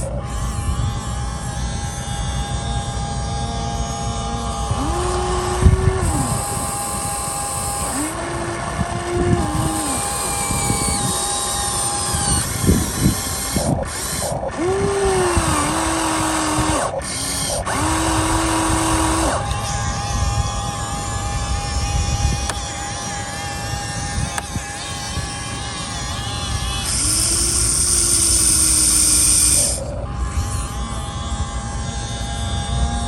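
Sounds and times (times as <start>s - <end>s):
electric motors and pump whining: 0.0s - 33.0s.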